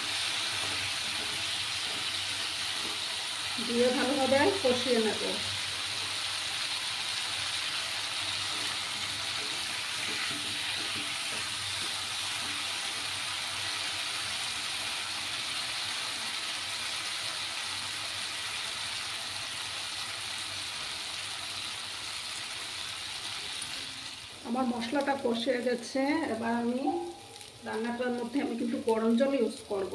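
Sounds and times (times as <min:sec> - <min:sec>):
food sizzling in oil in a wok: 0:00.0 - 0:29.9.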